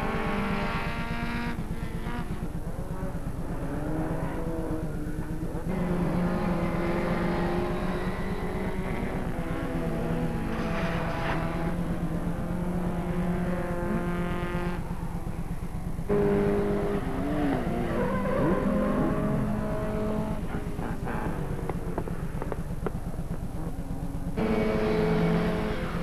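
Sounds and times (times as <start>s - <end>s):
small racing car engines revving: 0.0s - 26.0s.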